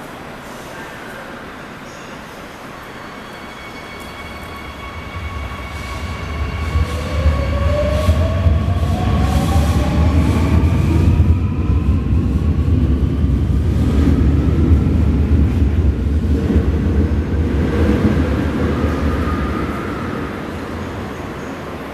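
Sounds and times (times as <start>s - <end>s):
wheels rumbling on rail: 4.0s - 21.9s.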